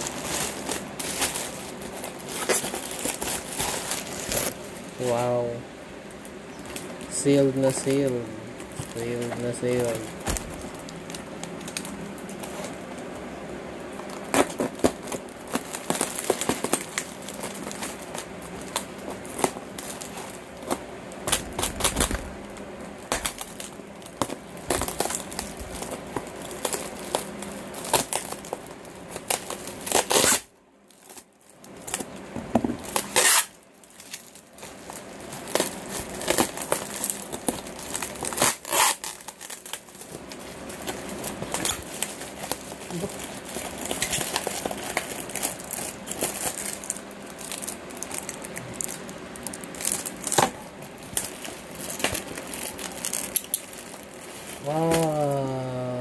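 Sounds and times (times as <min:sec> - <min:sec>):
plastic packaging crinkling: 0:00.0 - 0:55.9.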